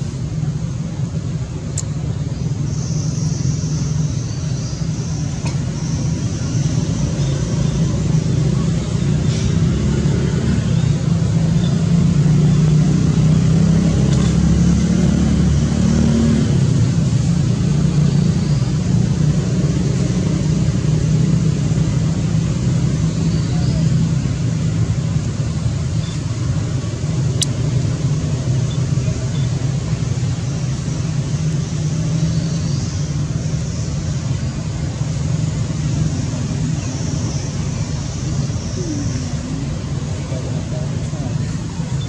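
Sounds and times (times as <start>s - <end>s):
low engine rumble: 0.0s - 42.0s.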